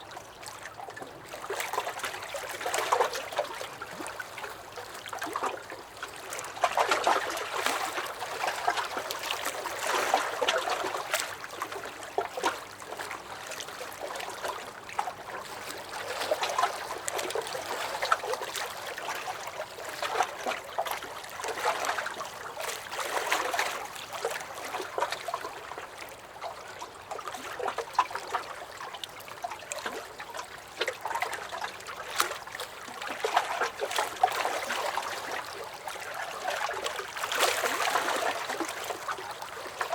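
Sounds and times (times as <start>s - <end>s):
lake waves lapping against dock: 0.0s - 39.9s.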